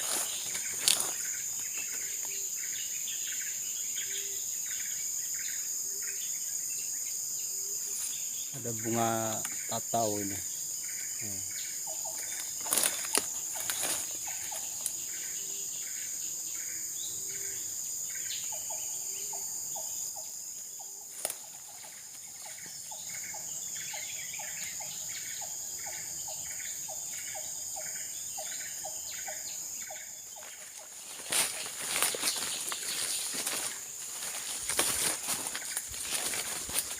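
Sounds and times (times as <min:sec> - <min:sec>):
high insect drone: 0:00.0 - 0:36.9.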